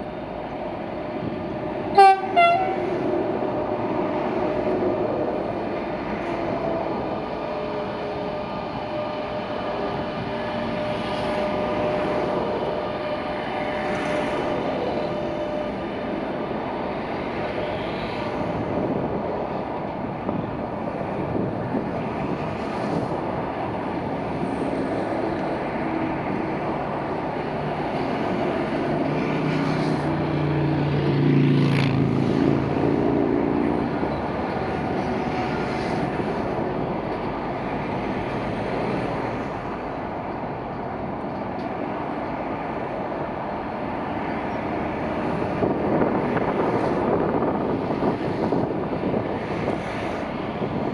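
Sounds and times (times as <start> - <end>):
freight train wagons rumbling on rails: 0.0 - 50.9.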